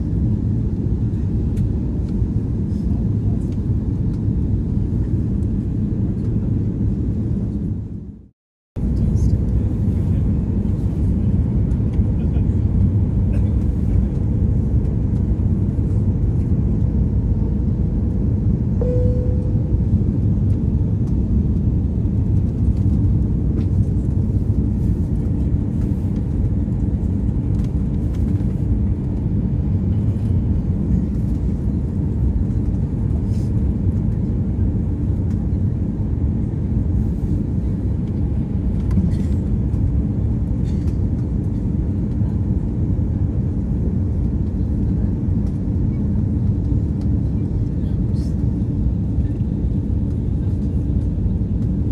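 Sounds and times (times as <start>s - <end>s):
airplane cabin rumble: 0.0s - 51.9s.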